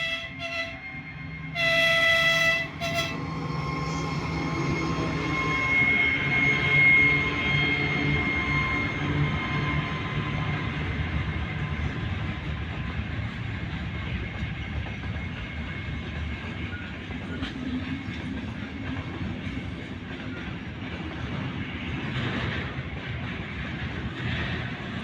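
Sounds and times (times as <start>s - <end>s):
freight train wagons rumbling: 0.0s - 25.0s.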